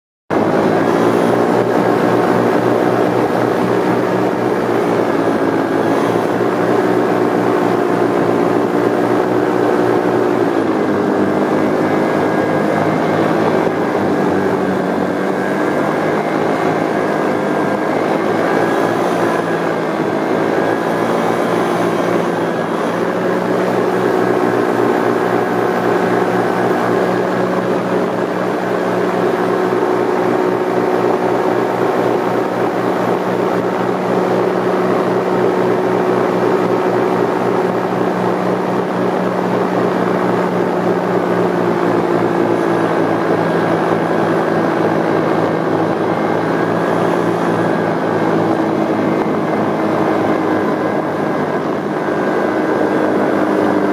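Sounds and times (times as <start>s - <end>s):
paramotor engine and propeller: 0.3s - 53.9s.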